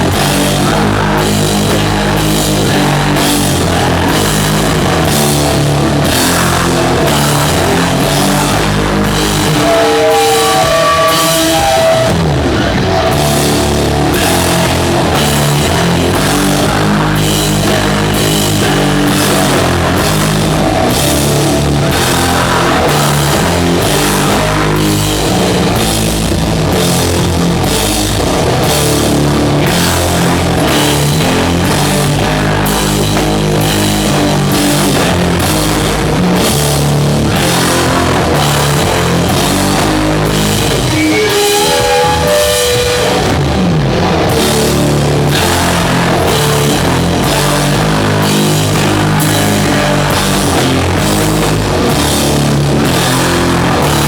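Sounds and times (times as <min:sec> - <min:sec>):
bending lead guitar line: 0:00.0 - 0:54.0
heavy metal band playing: 0:00.0 - 0:54.0.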